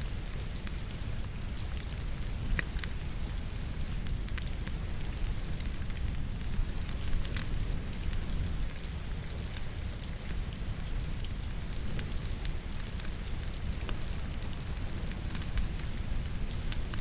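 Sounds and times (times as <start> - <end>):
low rumble of fire: 0.0 - 17.0
steady rain: 0.0 - 17.0
wood crackling and popping: 0.1 - 17.0.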